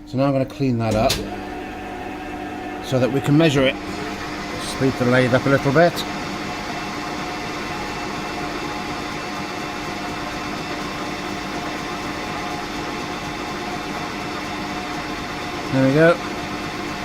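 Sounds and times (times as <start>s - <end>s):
lathe humming: 1.0s - 17.0s.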